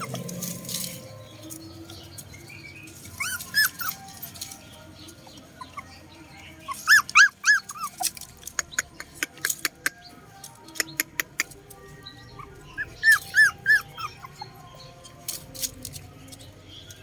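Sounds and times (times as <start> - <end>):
puppies whimpering: 0.0 - 10.0, 10.8 - 17.0.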